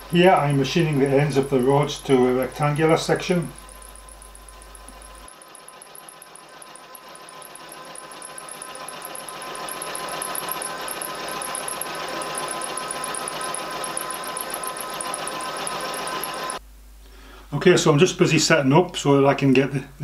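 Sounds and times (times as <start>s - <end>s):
milling machine cutting metal: 0.0s - 16.6s.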